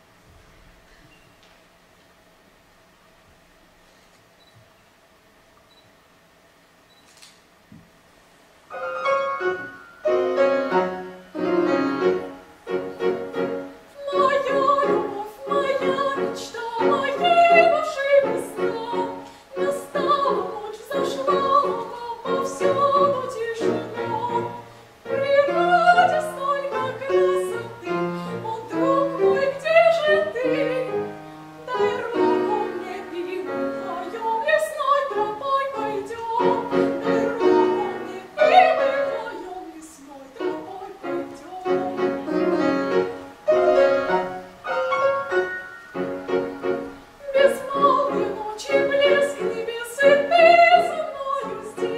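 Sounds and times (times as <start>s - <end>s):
piano accompaniment: 8.7s - 51.9s
woman singing classical song: 8.7s - 51.9s.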